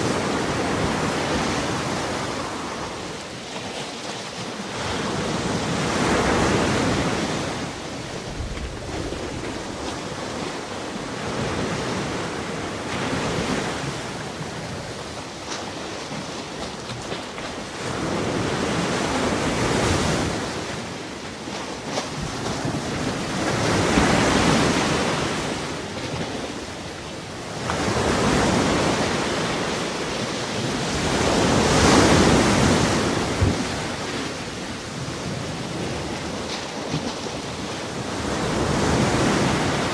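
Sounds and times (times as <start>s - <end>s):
ocean waves breaking: 0.0s - 39.9s
wind: 0.0s - 39.9s.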